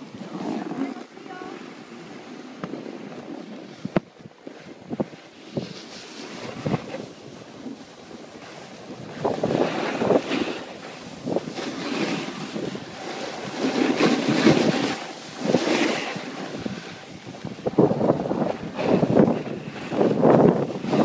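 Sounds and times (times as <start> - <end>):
skis scraping over snow: 0.0 - 21.0
wind buffeting microphone: 0.0 - 21.0.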